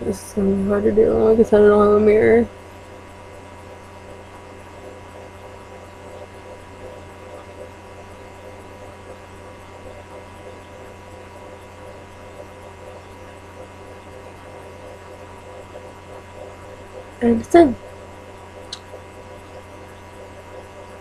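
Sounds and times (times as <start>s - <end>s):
constant hiss: 0.0s - 21.0s
electrical hum: 0.0s - 21.0s.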